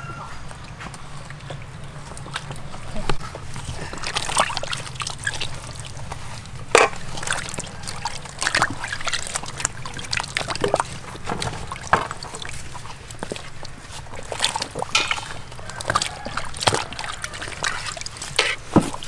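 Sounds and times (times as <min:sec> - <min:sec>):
water sloshing in metal basin: 0:00.0 - 0:19.0.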